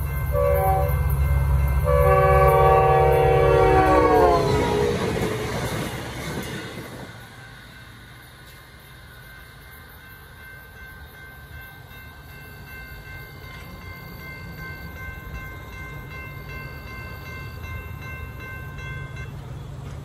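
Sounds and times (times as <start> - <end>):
crossing warning bell ringing: 0.0 - 20.0.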